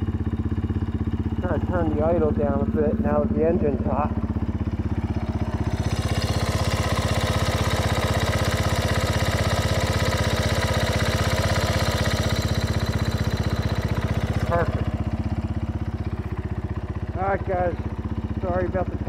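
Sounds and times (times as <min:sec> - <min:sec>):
atv engine idling: 0:00.0 - 0:19.0.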